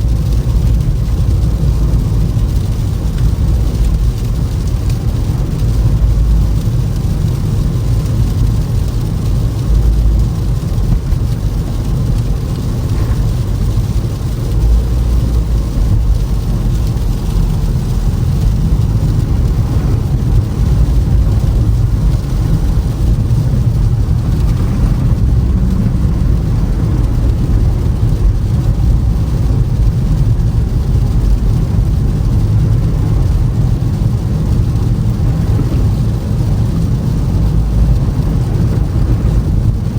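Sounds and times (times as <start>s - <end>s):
car driving on icy road: 0.0s - 39.9s.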